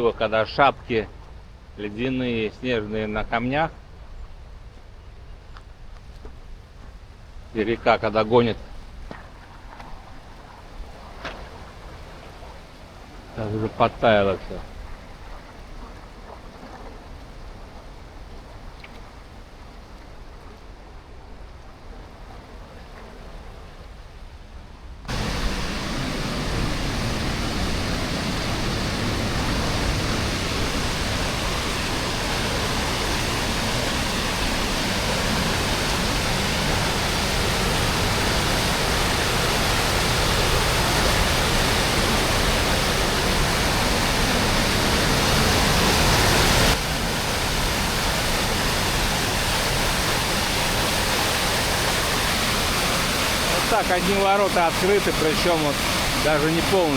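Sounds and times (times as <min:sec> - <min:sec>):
water rushing through weir gate: 0:06.8 - 0:24.1, 0:25.1 - 0:56.9.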